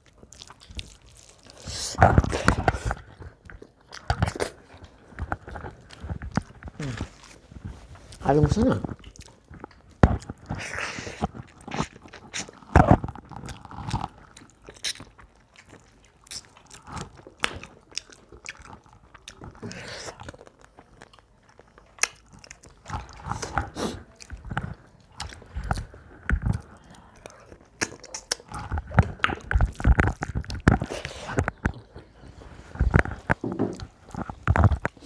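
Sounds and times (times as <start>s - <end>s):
chewing crisp food: 0.0s - 35.0s.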